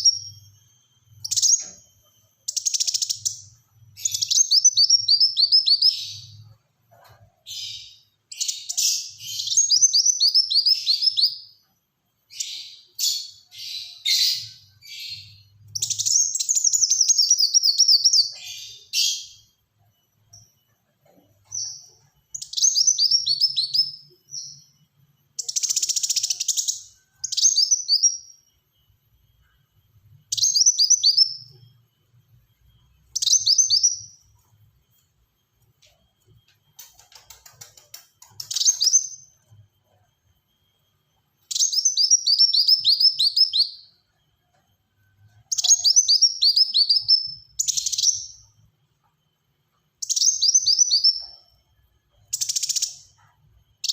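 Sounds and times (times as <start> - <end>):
sunbird singing: 0.0 - 35.2, 35.8 - 53.9.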